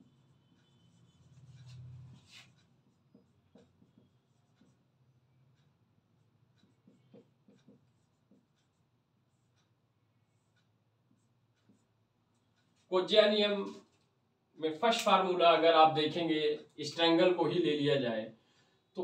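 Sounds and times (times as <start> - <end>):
marker pen on whiteboard: 0.0 - 18.3.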